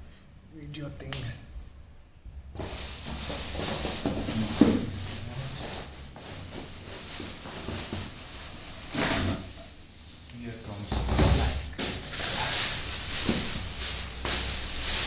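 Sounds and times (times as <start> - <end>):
packaging rustling and scraping: 2.6 - 15.0.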